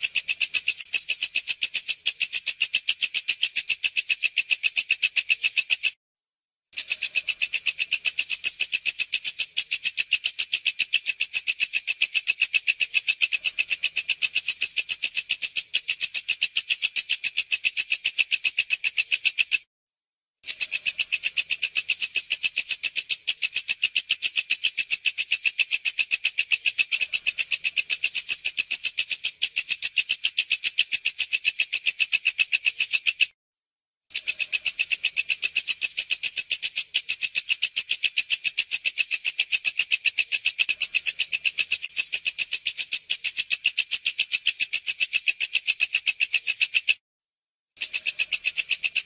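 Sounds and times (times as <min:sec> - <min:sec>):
katydid chirping: 0:00.0 - 0:05.9, 0:06.8 - 0:19.6, 0:20.5 - 0:33.3, 0:34.1 - 0:47.0, 0:47.8 - 0:49.0.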